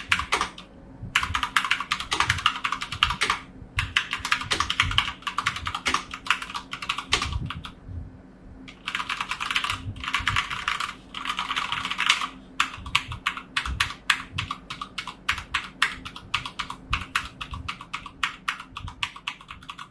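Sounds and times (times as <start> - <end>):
typing on mechanical keyboard: 0.0 - 7.8, 8.7 - 19.9.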